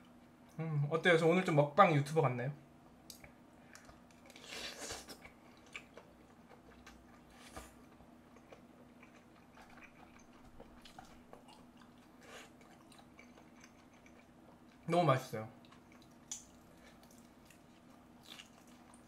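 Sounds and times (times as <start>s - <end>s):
faint chewing and mouth noises: 0.0s - 0.7s, 2.8s - 14.9s, 15.5s - 19.0s.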